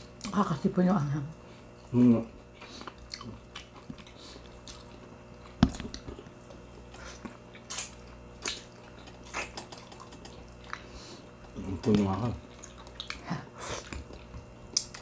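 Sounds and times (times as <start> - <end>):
chewing and biting food: 1.6 - 15.0.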